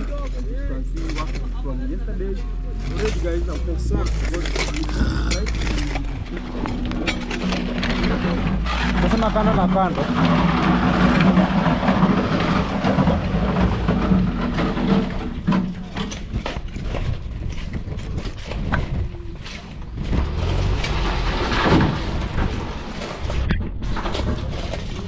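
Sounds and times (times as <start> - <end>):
knocks and clatter: 0.0 - 25.0
engine running: 2.7 - 25.0.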